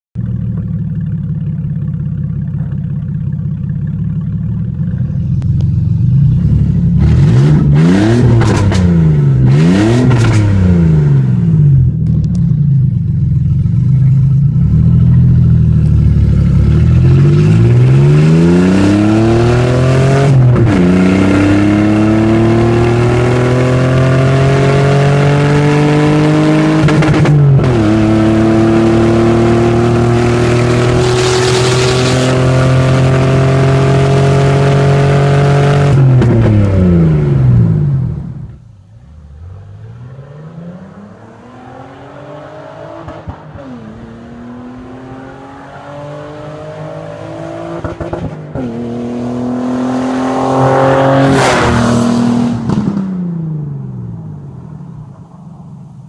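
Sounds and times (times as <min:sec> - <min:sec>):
car engine revving and accelerating: 0:05.1 - 0:12.2, 0:13.9 - 0:54.5.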